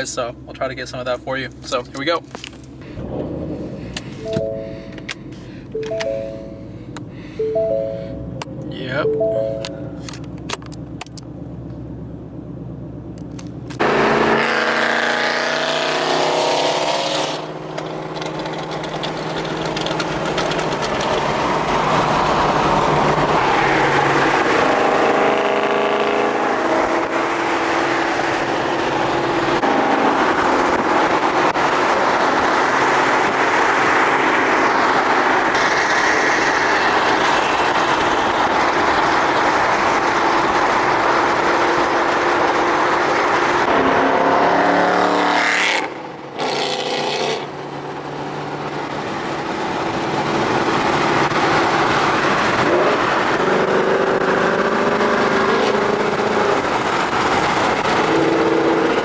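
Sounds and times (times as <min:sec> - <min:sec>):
car engine accelerating: 0:02.4 - 0:59.0.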